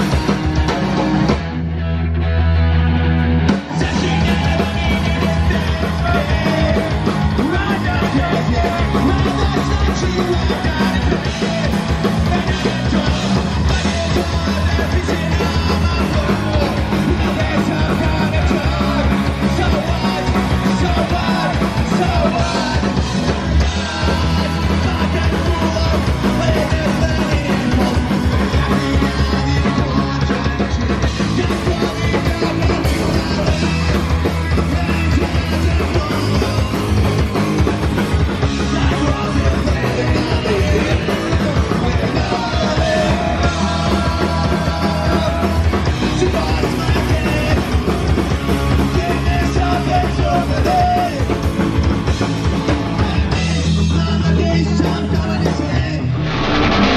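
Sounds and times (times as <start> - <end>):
punk rock band playing live: 0.0 - 56.9.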